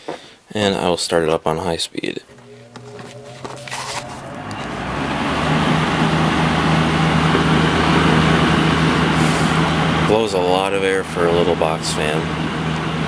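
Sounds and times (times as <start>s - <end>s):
box fan running: 2.2s - 13.0s.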